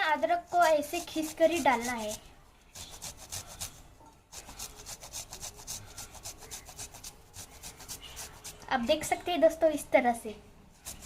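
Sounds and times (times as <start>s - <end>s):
ginger grating rasps: 0.0s - 9.3s, 10.8s - 11.0s.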